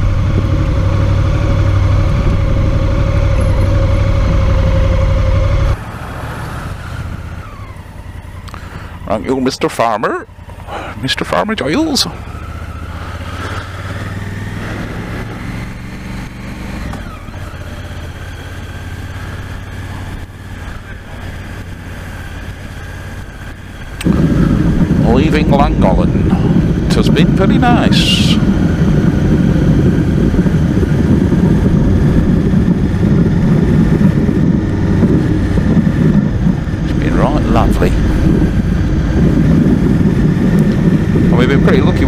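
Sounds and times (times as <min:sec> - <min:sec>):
motorcycle engine running: 0:00.0 - 0:42.0
road and wind noise: 0:00.0 - 0:42.0.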